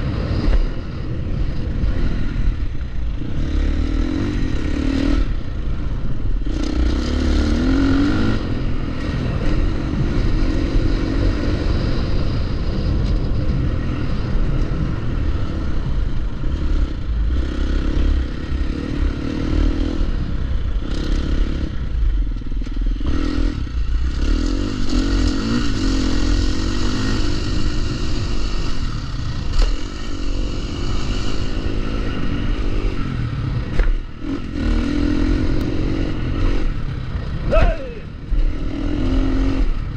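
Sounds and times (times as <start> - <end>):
dirt bike engine revving: 1.6 - 13.3, 13.9 - 22.0, 22.6 - 39.9.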